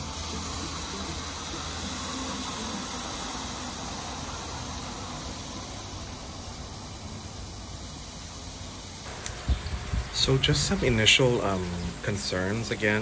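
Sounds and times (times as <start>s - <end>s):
patties sizzling on grill: 0.0s - 13.0s.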